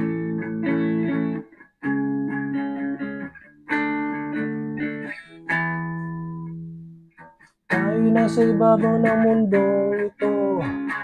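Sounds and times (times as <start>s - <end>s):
guitar chords strummed: 0.0s - 11.0s.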